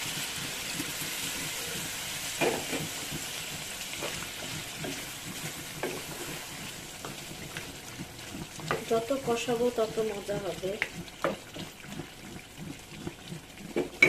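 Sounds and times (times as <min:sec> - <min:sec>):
spatula scraping a pan: 0:00.0 - 0:13.8
curry sizzling in a hot pan: 0:00.0 - 0:14.0.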